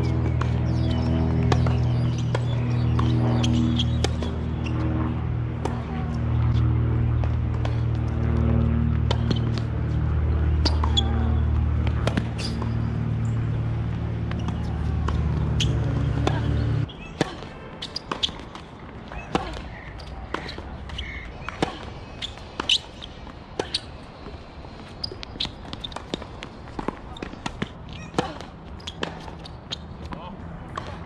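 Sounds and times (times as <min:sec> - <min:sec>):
low motor hum: 0:00.0 - 0:29.8
tennis balls bouncing and struck: 0:00.0 - 0:31.0.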